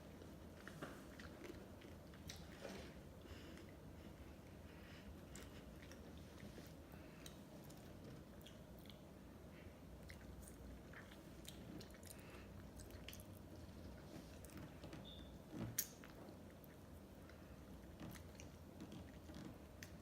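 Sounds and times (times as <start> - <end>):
soft chewing with wet clicks: 0.0 - 20.0.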